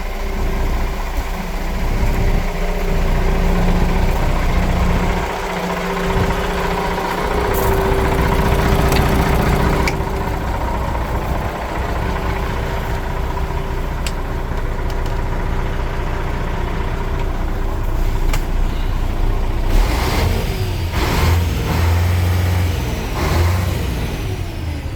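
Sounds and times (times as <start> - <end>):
diesel truck engine idling and revving: 0.0 - 24.9.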